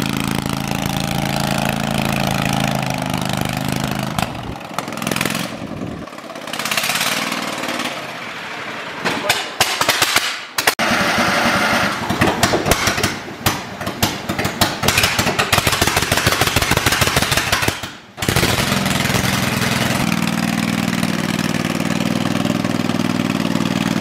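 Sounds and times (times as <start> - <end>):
tractor engine firing unevenly: 0.0 - 8.0, 9.0 - 21.0.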